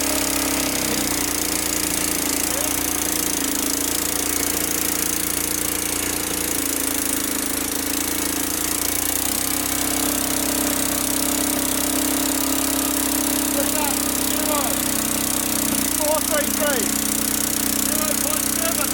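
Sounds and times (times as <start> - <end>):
engine-driven machine droning: 0.0 - 18.9.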